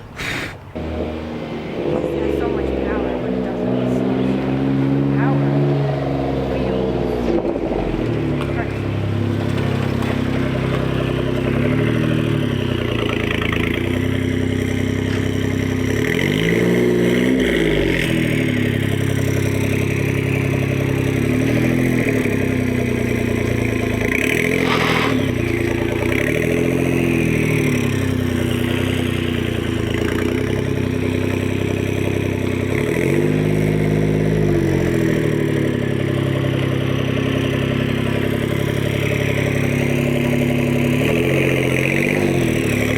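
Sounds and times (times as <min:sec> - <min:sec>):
small truck engine revving: 0:00.0 - 0:42.9.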